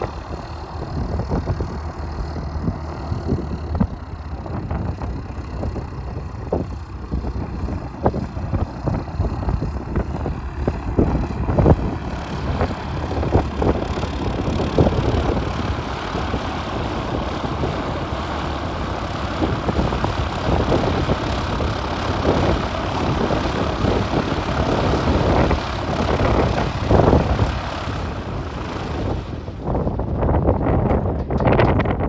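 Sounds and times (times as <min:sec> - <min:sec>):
propeller aircraft engine: 0:00.0 - 0:32.0
wind buffeting microphone: 0:00.0 - 0:32.0.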